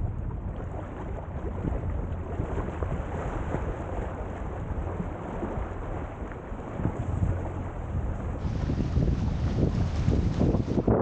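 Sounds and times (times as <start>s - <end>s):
waves washing up a beach: 0.0s - 11.0s
wind rumble on microphone: 0.0s - 11.0s.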